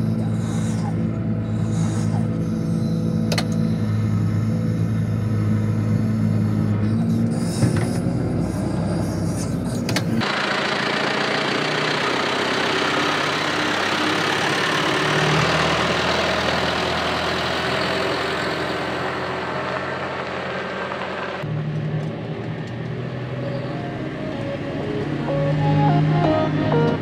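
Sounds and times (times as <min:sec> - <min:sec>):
deep engine rumble: 0:00.0 - 0:27.0
diesel engine running: 0:00.0 - 0:27.0
tractor passing: 0:00.0 - 0:27.0.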